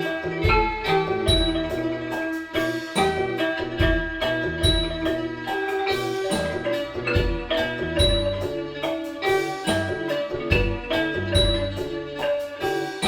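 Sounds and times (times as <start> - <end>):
steady low beat: 0.0 - 12.6
melody of short struck notes: 0.0 - 13.0.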